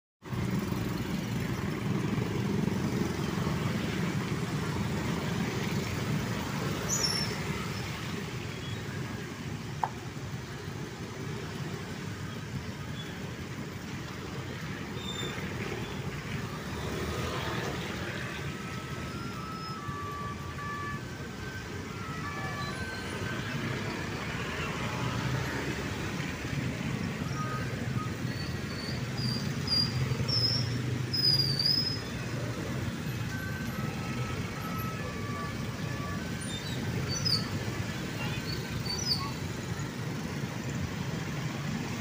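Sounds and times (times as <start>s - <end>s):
motorcycles and cars passing: 0.2s - 42.0s
tyres on wet asphalt: 0.2s - 42.0s.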